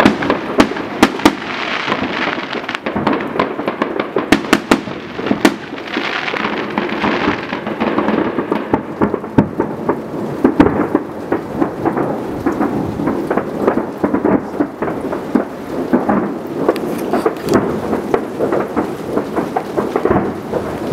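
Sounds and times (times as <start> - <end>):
fireworks bangs and rumble: 0.0 - 20.9
hissing crackle: 0.0 - 20.9.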